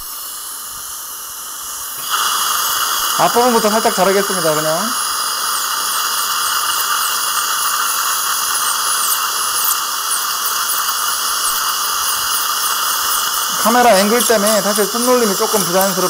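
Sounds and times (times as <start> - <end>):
dental drill whining: 0.0 - 16.0.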